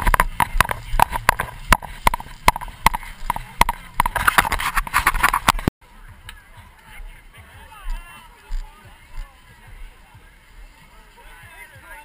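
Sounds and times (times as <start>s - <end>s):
running footsteps on grass: 0.0s - 12.0s.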